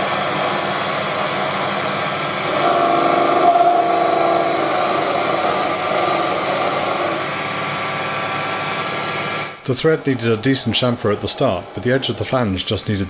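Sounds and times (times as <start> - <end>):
lathe motor whine: 0.0 - 13.0.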